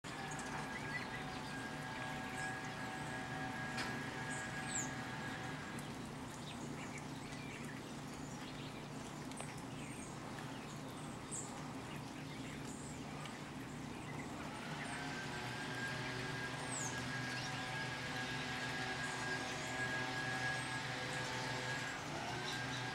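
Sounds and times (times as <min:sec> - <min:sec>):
outdoor background hum: 0:00.0 - 0:22.9.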